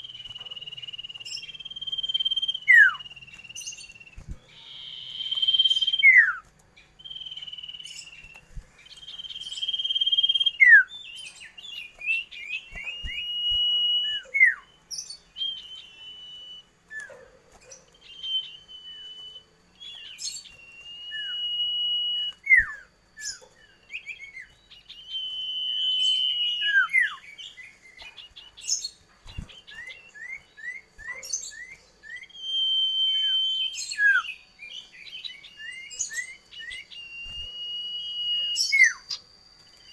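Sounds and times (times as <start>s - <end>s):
bird whistling and chirping: 0.0s - 39.9s.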